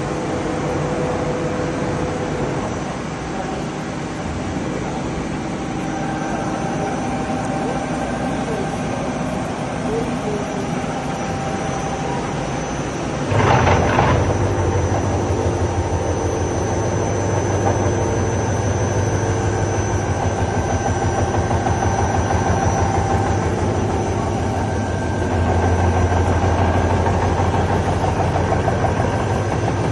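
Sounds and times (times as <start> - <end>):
boring machine humming: 0.0 - 29.9.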